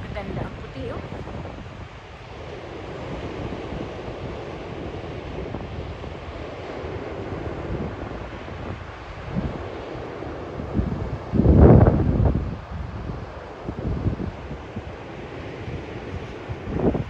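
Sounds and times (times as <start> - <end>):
surf breaking on shore: 0.0 - 17.0
wind rumbling on microphone: 0.0 - 17.0.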